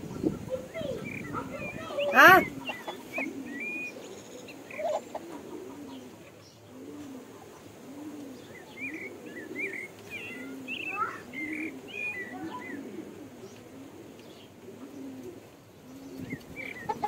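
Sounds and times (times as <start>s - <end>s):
pigeons cooing: 0.0s - 17.0s
small birds chirping: 0.0s - 17.0s.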